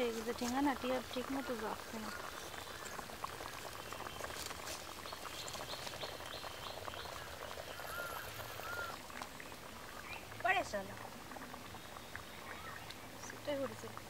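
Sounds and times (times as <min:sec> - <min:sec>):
birds calling: 0:00.0 - 0:10.7, 0:11.6 - 0:13.9
wood fire crackling: 0:00.0 - 0:14.0.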